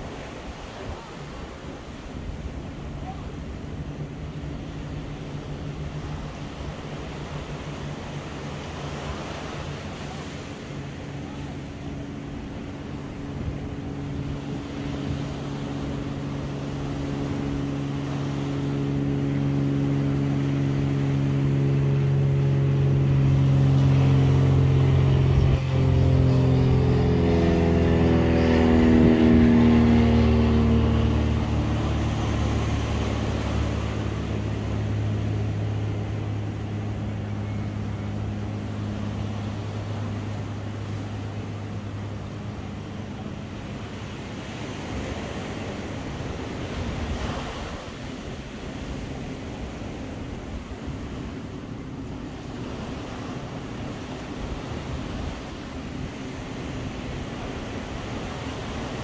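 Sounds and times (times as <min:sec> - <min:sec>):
engine passing by: 0:00.0 - 0:59.0
surf washing: 0:00.0 - 0:59.0.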